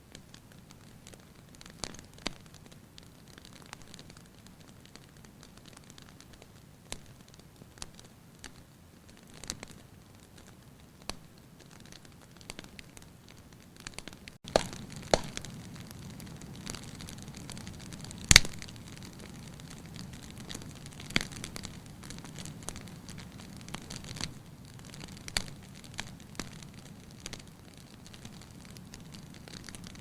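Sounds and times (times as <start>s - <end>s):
fireplace fire crackling: 0.0s - 30.0s.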